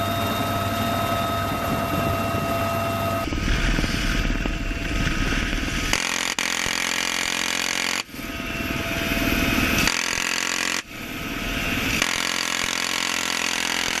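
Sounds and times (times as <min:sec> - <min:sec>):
helicopter rotor noise: 0:00.0 - 0:14.0
helicopter turbine whine: 0:00.0 - 0:14.0.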